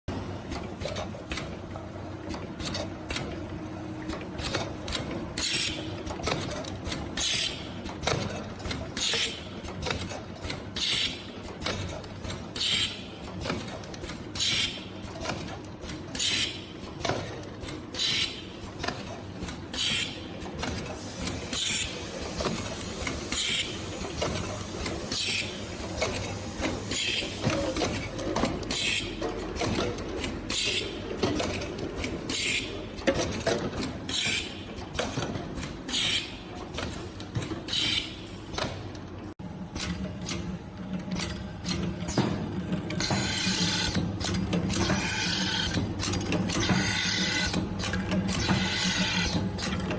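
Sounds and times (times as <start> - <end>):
machine humming with small clicks: 0.1 - 49.9.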